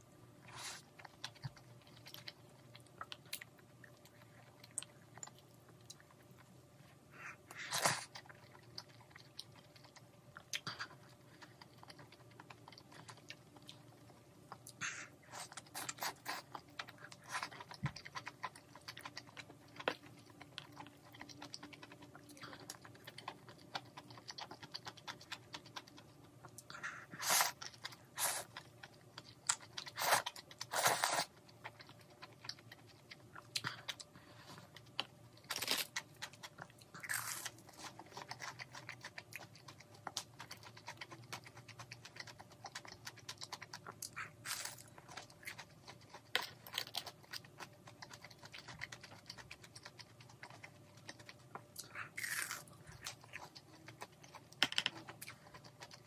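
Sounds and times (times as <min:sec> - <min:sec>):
person chewing food: 0:00.3 - 0:56.0.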